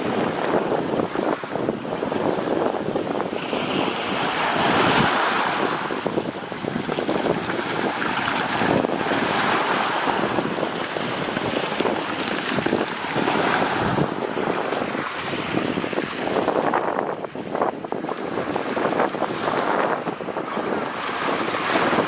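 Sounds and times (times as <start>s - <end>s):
sea surf washing ashore: 0.0s - 22.0s.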